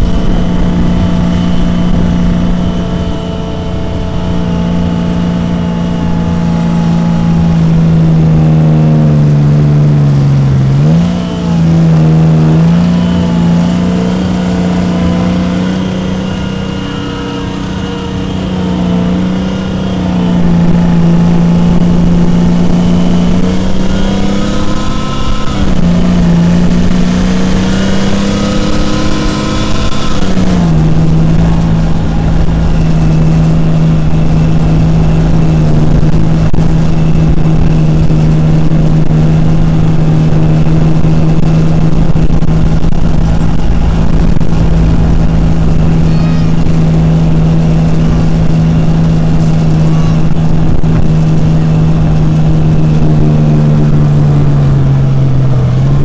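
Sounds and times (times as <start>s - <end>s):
high-pitched whine: 0.0s - 56.0s
tank engine running: 0.0s - 56.0s.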